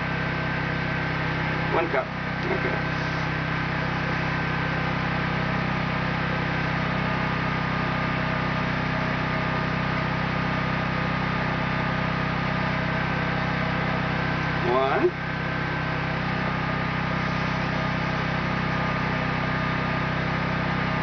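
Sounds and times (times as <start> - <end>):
generator engine humming: 0.0 - 21.0.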